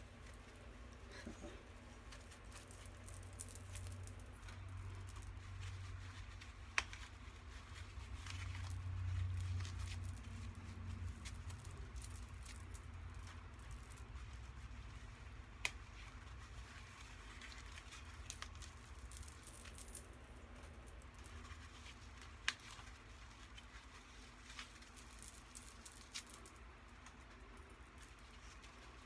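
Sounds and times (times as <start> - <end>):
hair rollers rustling: 0.0 - 29.0.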